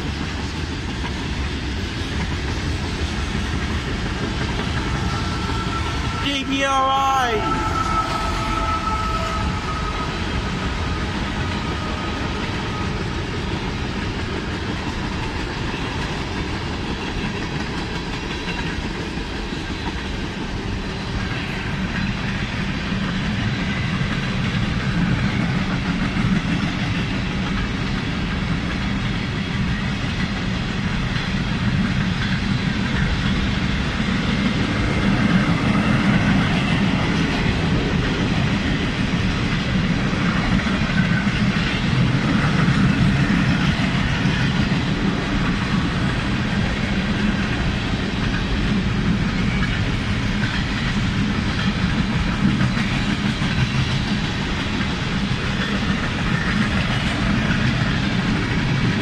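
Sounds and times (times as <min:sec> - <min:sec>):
steel wheels rolling on rail: 0:00.0 - 0:06.2, 0:07.4 - 0:59.0.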